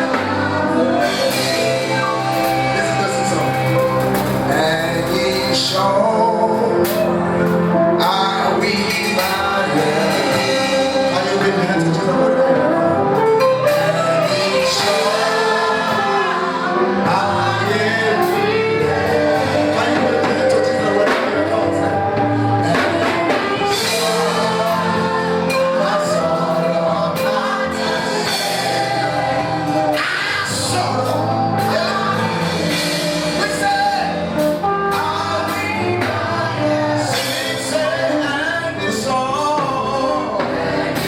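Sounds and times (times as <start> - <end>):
band with bass and percussion: 0.0 - 41.0
choir singing gospel: 0.0 - 41.0.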